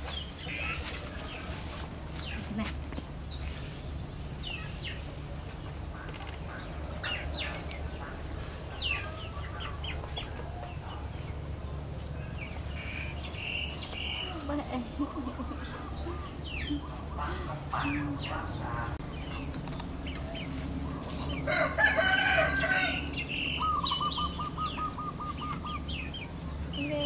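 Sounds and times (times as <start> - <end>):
lower bird calls: 0.0 - 27.0
small birds chirping: 0.0 - 27.0.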